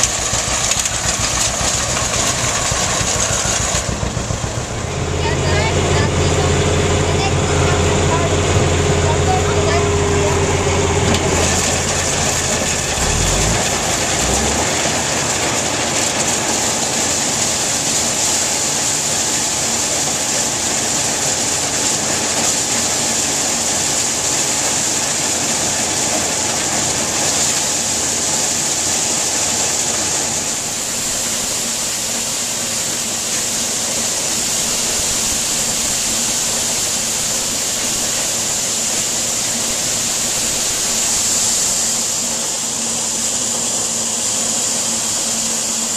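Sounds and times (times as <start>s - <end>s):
corn sheller clattering: 0.0s - 4.6s, 8.2s - 45.9s.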